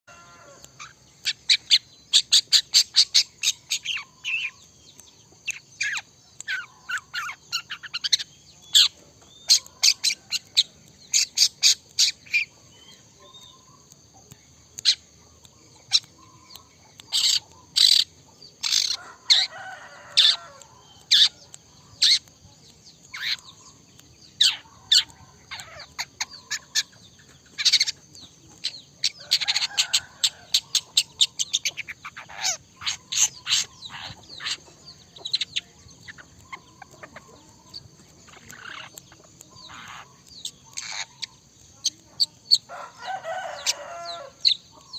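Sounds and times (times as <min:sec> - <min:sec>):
shrike singing: 0:00.1 - 0:44.9.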